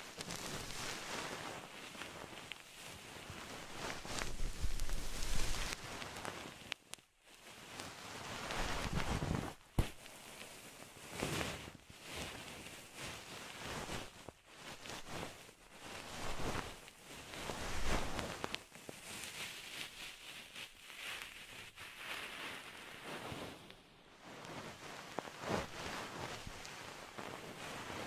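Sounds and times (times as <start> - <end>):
close rustling: 0.0 - 6.8, 7.7 - 23.7, 24.5 - 28.0.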